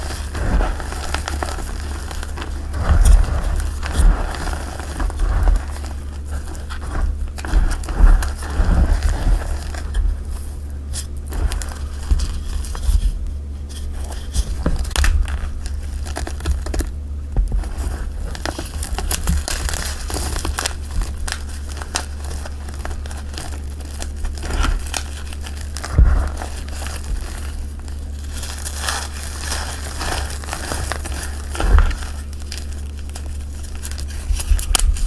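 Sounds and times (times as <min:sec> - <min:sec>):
chalk crackling and crunching: 0:00.0 - 0:35.0.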